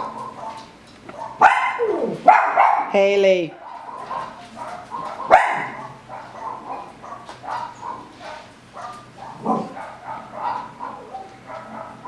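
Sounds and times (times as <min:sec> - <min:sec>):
dog barking: 0:00.0 - 0:12.0.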